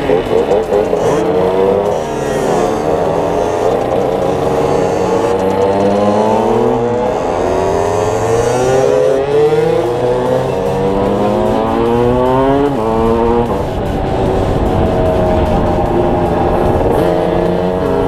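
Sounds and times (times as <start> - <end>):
two-stroke motorcycle accelerating: 0.0 - 18.0.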